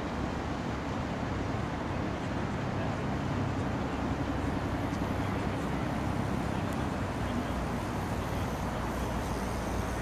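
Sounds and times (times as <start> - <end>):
boat engine droning: 0.0 - 10.0
outdoor background noise: 0.0 - 10.0.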